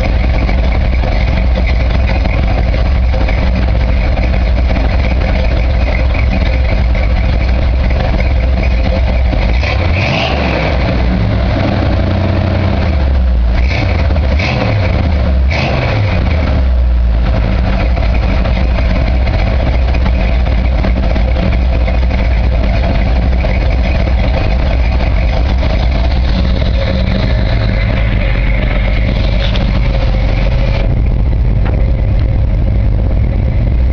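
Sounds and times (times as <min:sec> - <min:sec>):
car engine idling with throttle blips: 0:00.0 - 0:33.9.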